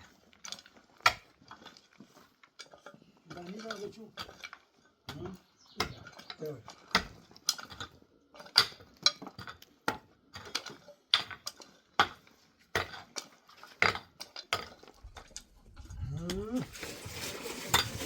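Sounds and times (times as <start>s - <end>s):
hard objects clinking and knocking: 0.2s - 16.4s.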